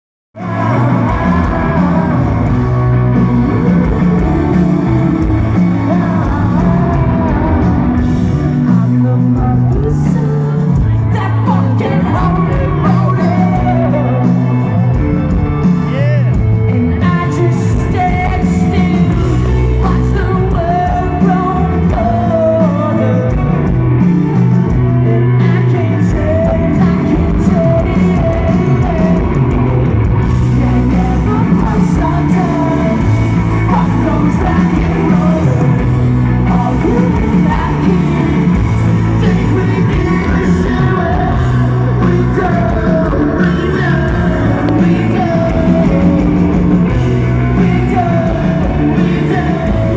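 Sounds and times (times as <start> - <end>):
live rock band: 0.4 - 49.9
person singing: 0.4 - 49.9.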